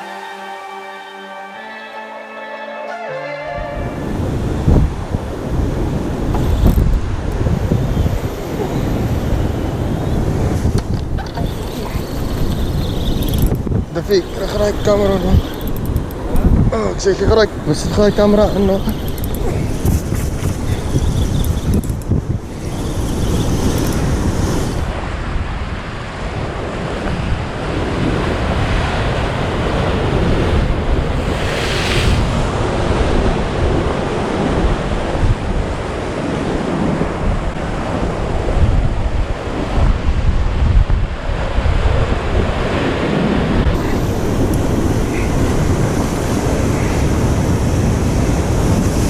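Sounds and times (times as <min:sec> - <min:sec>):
wind buffeting microphone: 0:04.0 - 0:49.0.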